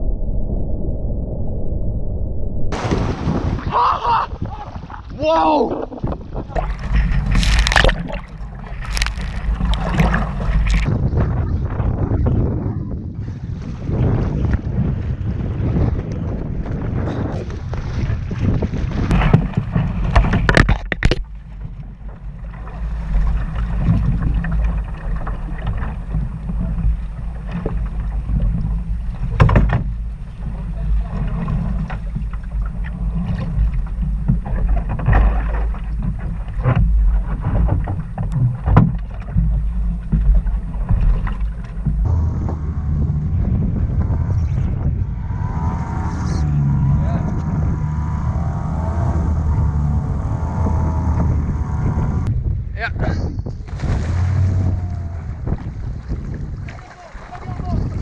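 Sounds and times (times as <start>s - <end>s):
water splashing against hull: 2.7s - 58.0s
wind buffeting microphone: 2.7s - 58.0s.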